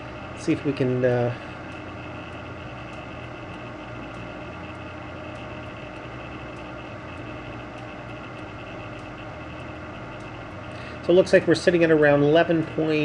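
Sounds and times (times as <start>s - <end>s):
faint steady hum: 0.0s - 13.0s
space heater fan whir: 0.0s - 13.0s.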